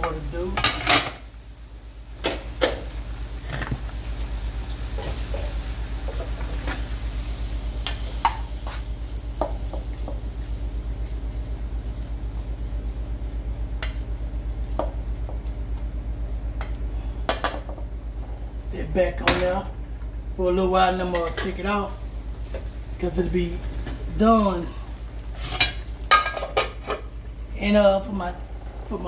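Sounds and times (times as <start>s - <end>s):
faint sizzle: 0.0s - 29.0s
low pulsing hum: 0.0s - 29.0s.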